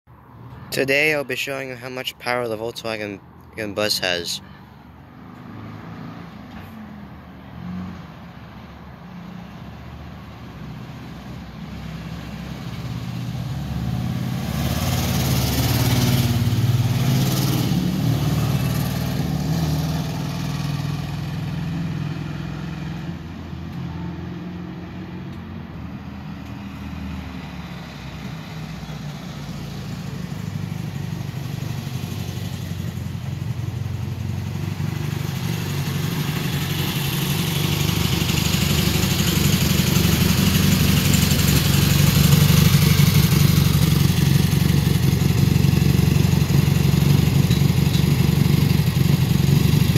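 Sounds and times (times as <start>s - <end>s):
van engine driving up: 3.6s - 49.9s.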